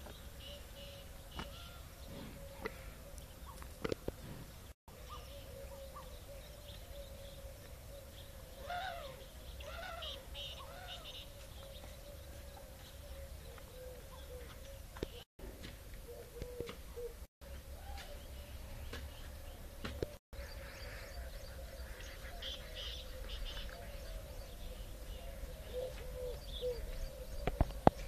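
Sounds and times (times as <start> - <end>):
birds chirping and calling: 0.0 - 15.3, 16.0 - 28.0.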